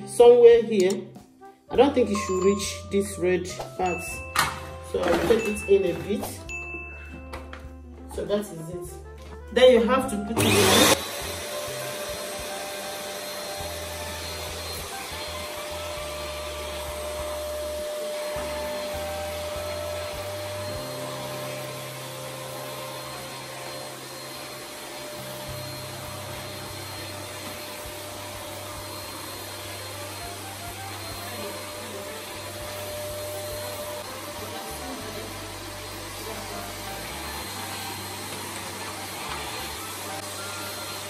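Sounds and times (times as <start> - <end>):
vacuum cleaner running: 3.1 - 7.3, 9.6 - 41.0.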